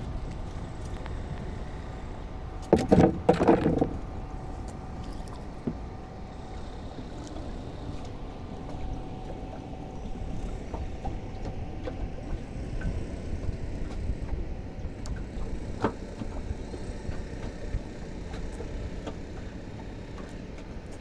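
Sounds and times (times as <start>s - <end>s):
water against boat hull: 0.0s - 21.0s.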